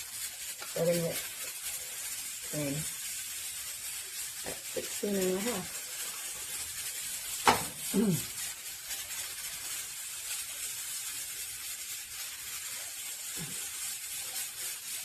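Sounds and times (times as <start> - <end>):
pressure cooker hissing steam: 0.0 - 15.0.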